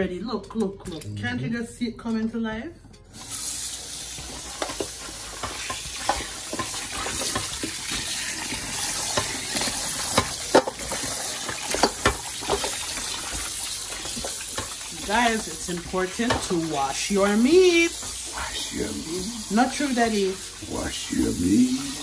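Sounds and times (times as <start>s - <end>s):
tap water running: 3.1s - 22.0s.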